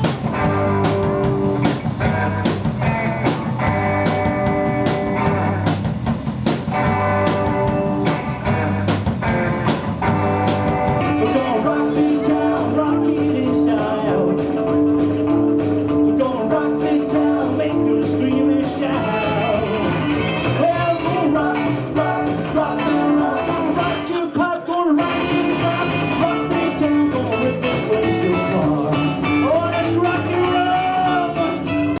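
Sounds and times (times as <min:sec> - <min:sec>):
rock music with guitar and singing: 0:00.0 - 0:32.0.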